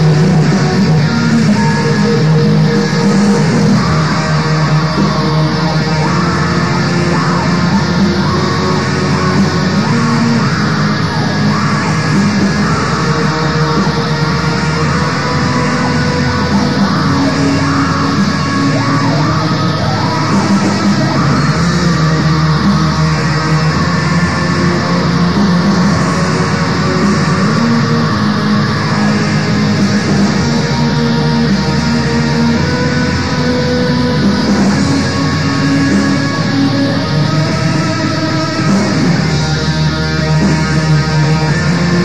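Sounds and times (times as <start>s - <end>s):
distorted electric guitars: 0.0s - 42.0s.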